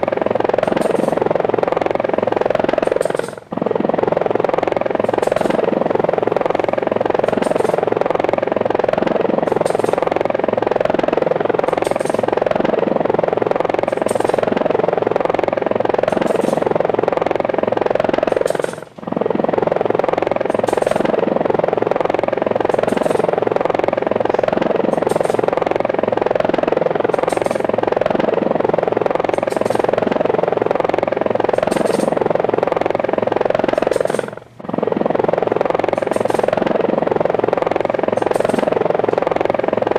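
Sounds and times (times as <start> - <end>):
helicopter rotor noise: 0.0 - 39.9.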